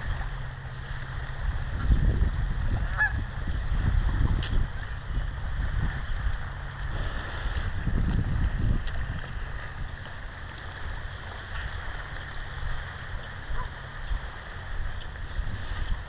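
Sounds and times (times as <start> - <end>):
steady outdoor hiss: 0.0 - 16.0
wind buffeting microphone: 0.0 - 16.0.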